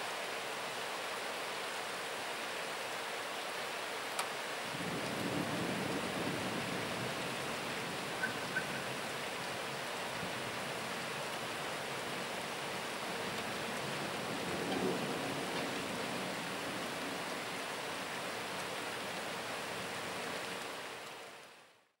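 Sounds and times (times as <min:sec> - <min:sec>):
rain pouring: 0:00.0 - 0:21.7.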